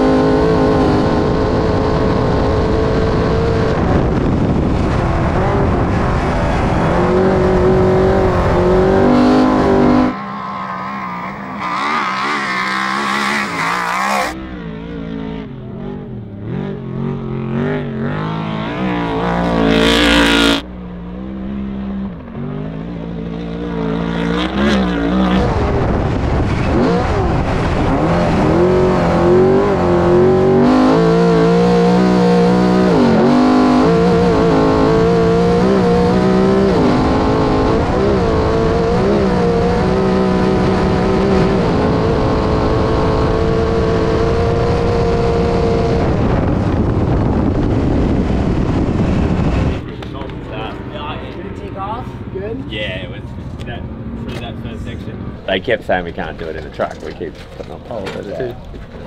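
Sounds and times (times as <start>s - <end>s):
truck engine revving hard: 0.0s - 52.4s.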